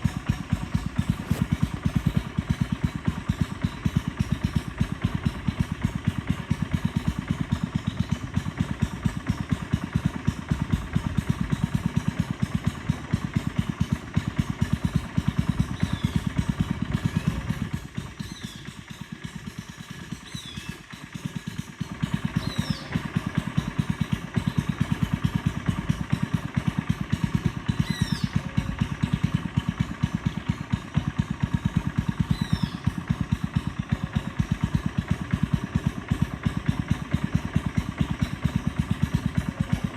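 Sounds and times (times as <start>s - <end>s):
small boat engine pulsing: 0.0s - 39.9s.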